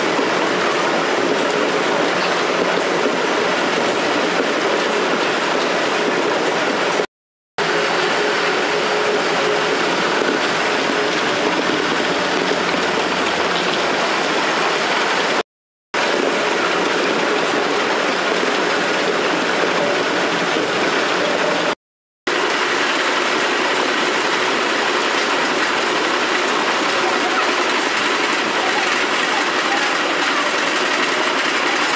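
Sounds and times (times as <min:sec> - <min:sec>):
conveyor machinery rattling: 0:00.0 - 0:15.4, 0:16.0 - 0:31.9.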